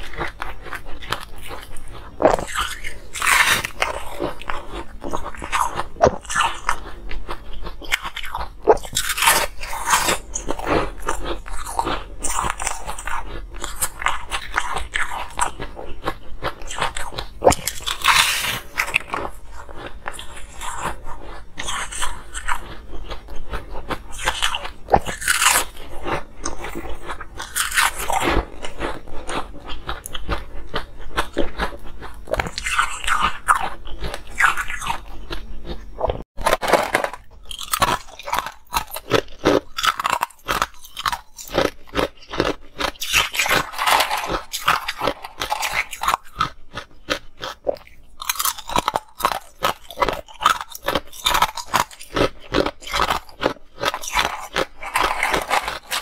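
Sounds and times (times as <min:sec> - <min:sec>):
person crunching ice: 0:00.0 - 0:56.0.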